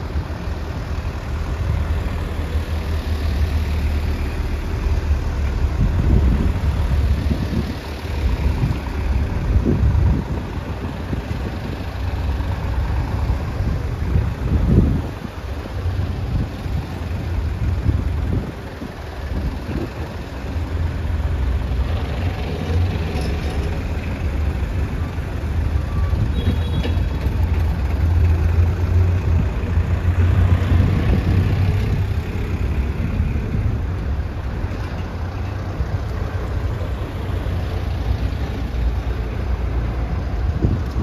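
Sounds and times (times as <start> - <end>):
trucks driving past slowly: 0.0 - 41.0.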